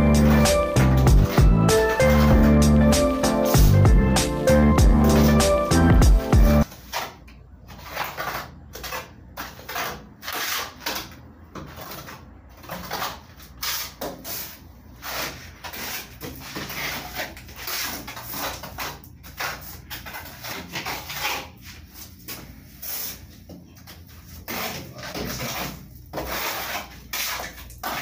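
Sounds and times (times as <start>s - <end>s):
trowel scraping wet plaster: 0.0s - 3.8s, 5.0s - 5.8s, 6.6s - 21.8s, 24.2s - 28.0s.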